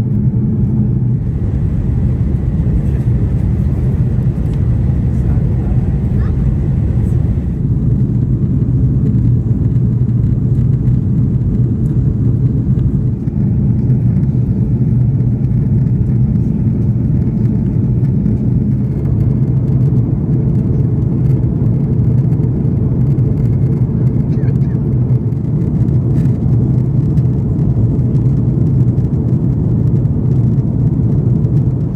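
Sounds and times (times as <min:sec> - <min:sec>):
airliner cabin engine rumble: 0:00.0 - 0:31.9.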